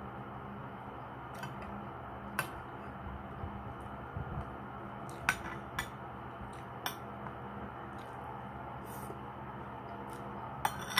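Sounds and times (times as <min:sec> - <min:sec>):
low background hum: 0:00.0 - 0:10.9.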